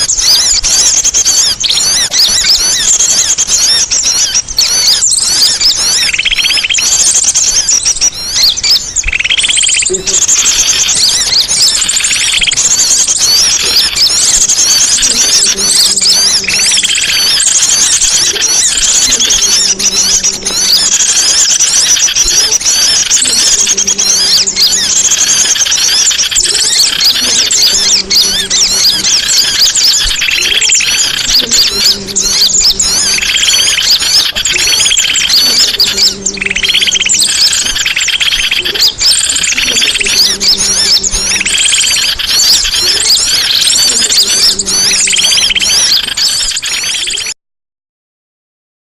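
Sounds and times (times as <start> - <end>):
songbird singing: 0.0 - 47.4.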